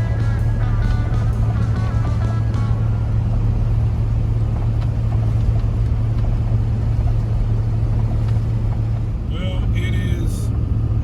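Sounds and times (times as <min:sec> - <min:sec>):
engine and road noise inside vehicle: 0:00.0 - 0:11.0.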